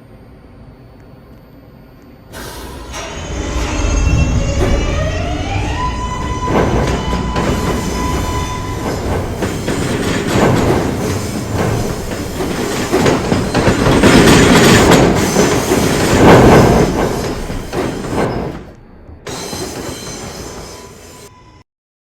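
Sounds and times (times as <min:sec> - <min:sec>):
subway train rumbling: 0:00.0 - 0:21.6
wheels clattering over rail joints: 0:02.4 - 0:20.9.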